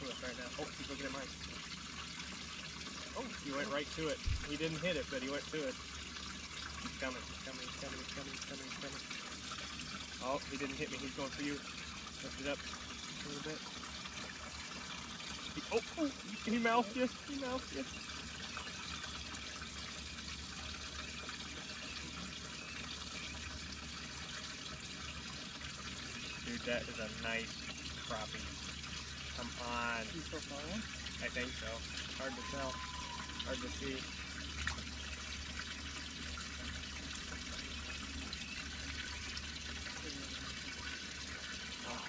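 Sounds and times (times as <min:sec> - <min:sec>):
water trickling: 0:00.0 - 0:42.0.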